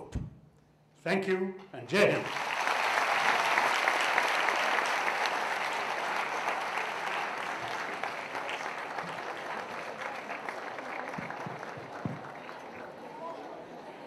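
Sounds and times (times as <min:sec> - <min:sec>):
audience applauding: 0:02.0 - 0:13.7.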